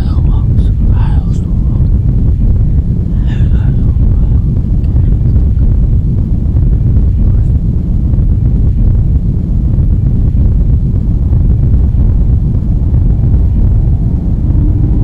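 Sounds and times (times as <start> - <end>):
low rumbling drone: 0.0 - 15.0.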